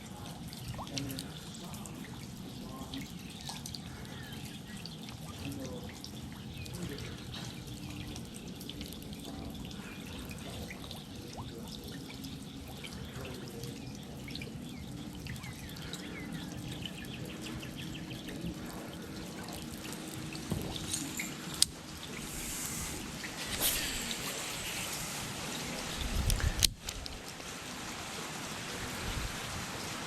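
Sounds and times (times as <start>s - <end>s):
water dripping and trickling: 0.0s - 30.0s.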